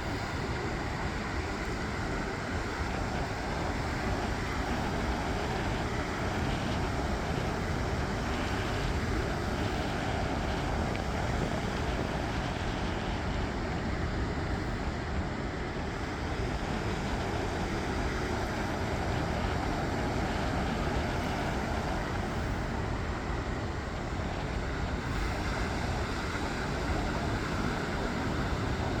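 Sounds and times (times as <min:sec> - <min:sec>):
sea surf: 0:00.0 - 0:29.0
wind: 0:00.0 - 0:29.0.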